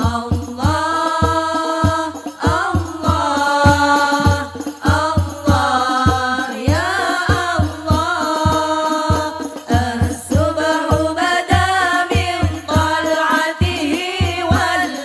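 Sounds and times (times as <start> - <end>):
steady drum beats: 0.0 - 15.0
voices singing devotional melody: 0.0 - 15.0.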